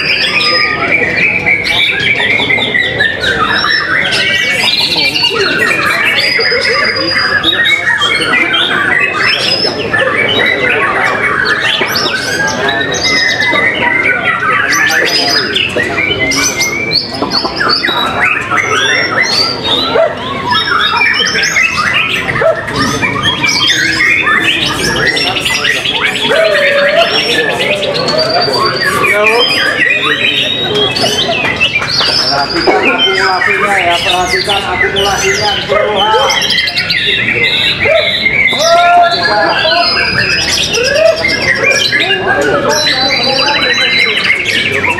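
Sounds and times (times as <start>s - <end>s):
birds singing: 0.0s - 44.9s.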